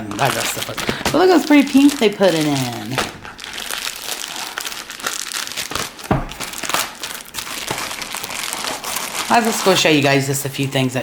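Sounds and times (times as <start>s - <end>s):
crinkly packaging rustling: 0.0s - 11.0s.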